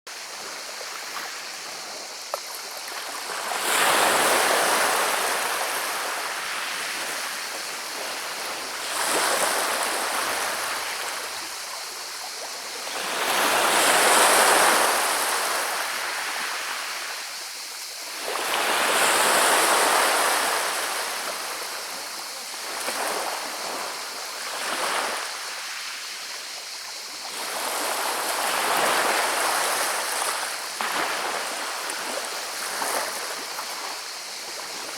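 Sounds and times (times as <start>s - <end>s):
waves on pebble beach: 0.6s - 17.4s, 18.0s - 26.2s, 27.0s - 34.9s.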